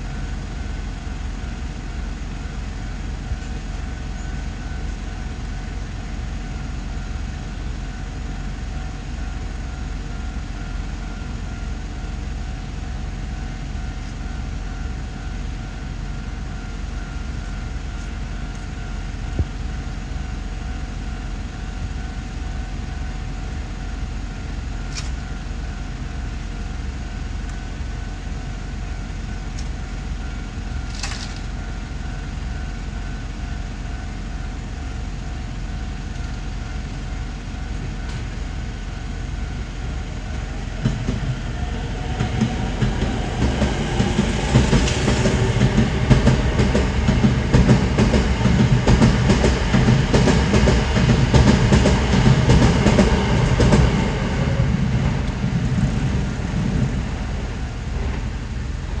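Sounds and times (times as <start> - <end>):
electric train rumble: 0.0 - 59.0.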